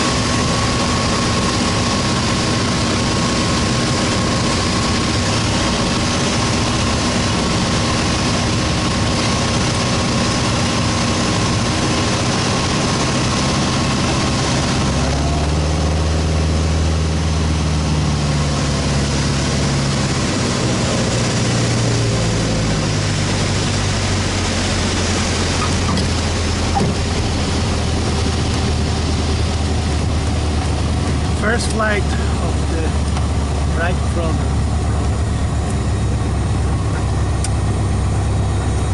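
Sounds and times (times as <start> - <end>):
light airplane engine and propeller: 0.0 - 38.9.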